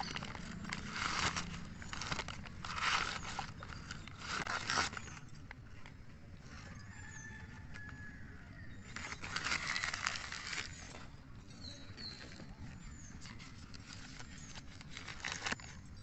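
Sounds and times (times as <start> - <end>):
newspaper rustling and crinkling: 0.0 - 6.0, 8.8 - 16.0.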